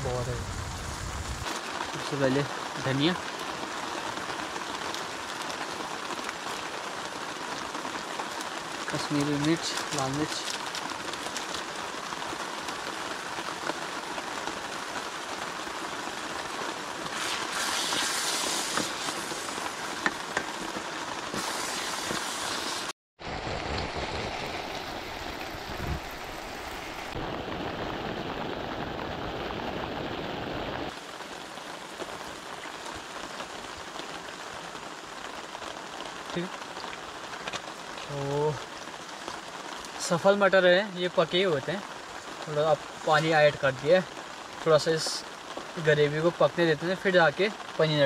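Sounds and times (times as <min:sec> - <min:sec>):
rain falling on a tent: 0:00.0 - 0:48.0.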